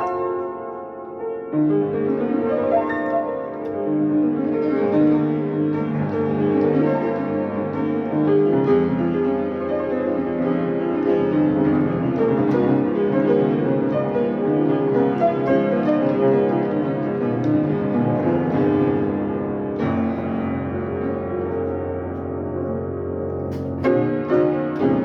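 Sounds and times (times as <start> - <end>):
solo piano improvisation: 0.0 - 25.0.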